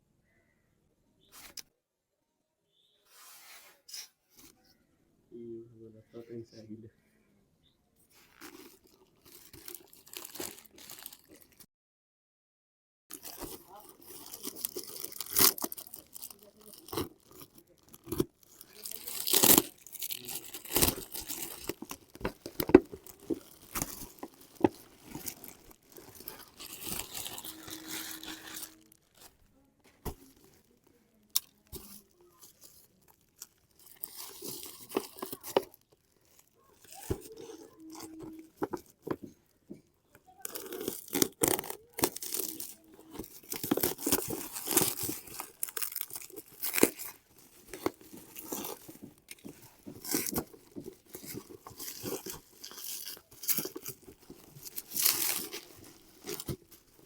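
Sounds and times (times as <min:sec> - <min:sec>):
packaging ripping and crinkling: 0:08.1 - 0:11.7, 0:13.1 - 0:39.4, 0:40.3 - 0:57.0.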